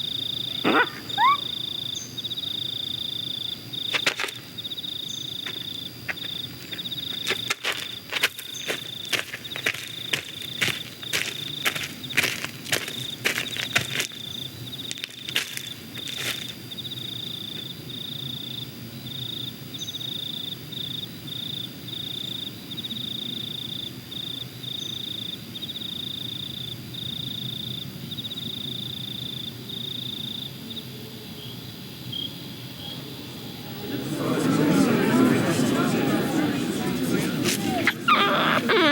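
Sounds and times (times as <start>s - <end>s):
cricket chirping: 0.0s - 33.8s.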